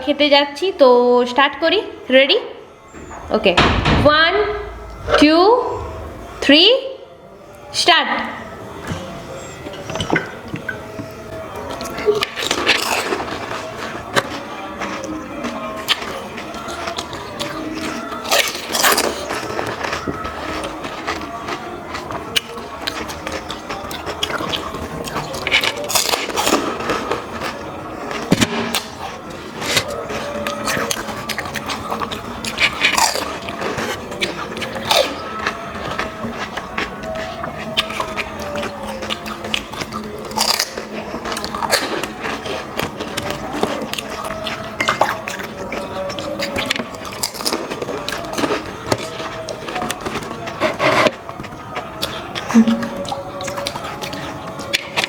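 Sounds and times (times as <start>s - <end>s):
crisp shells crunching when chewed: 8.4s - 55.0s.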